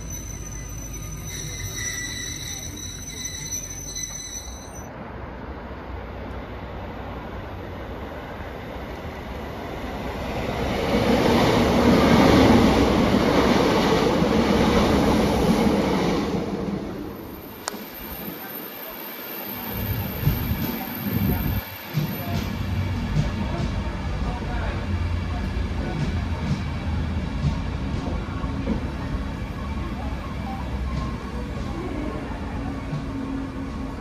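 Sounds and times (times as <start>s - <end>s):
diesel train passing: 0.0s - 34.0s.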